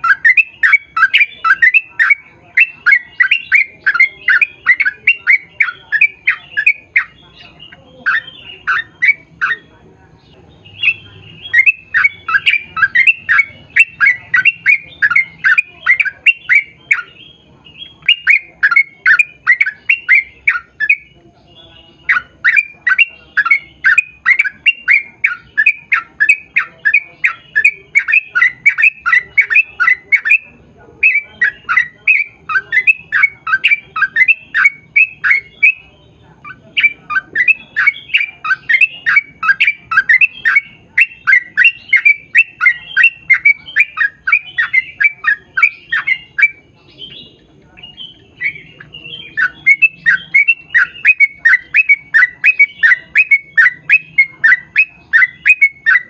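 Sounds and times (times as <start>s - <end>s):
bird chattering song: 0.0s - 56.0s.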